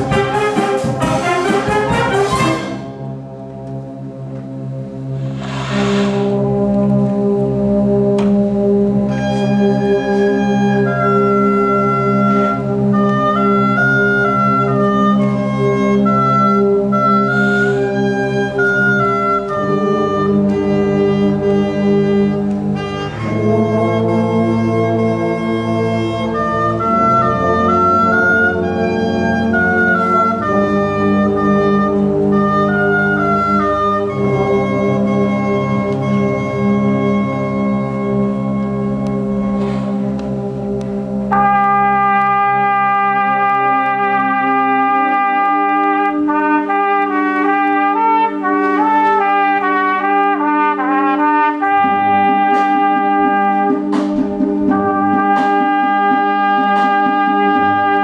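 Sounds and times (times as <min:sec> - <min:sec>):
wind band playing: 0:00.0 - 0:03.8, 0:04.7 - 0:58.0.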